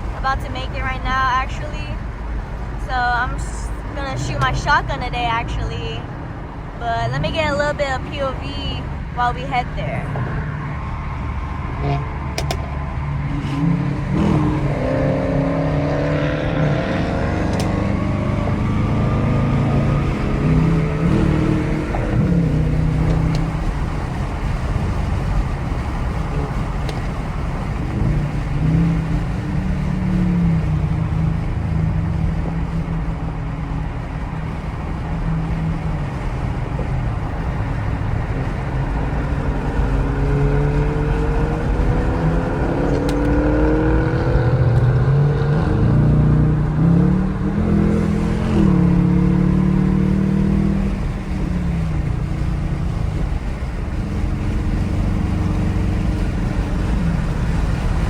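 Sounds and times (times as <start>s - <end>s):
road noise: 0.0s - 58.0s
vehicle engine accelerating: 0.0s - 58.0s.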